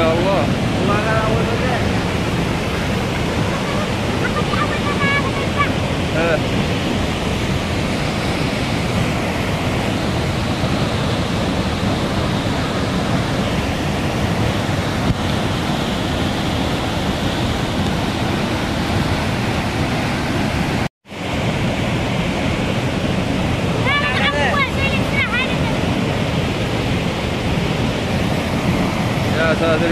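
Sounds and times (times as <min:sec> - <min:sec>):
waterfall rushing: 0:00.0 - 0:29.9
wind buffeting microphone: 0:00.0 - 0:29.9.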